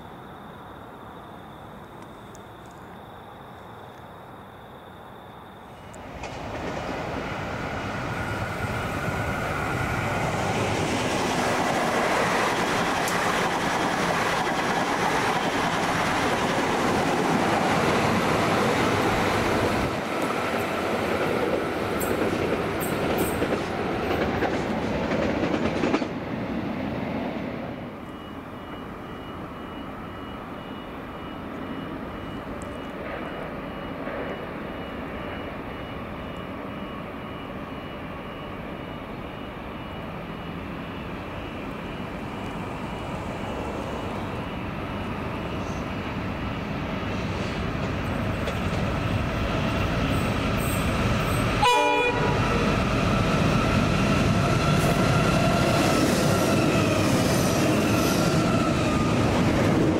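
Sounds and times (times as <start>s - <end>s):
train running past: 0.0s - 59.9s.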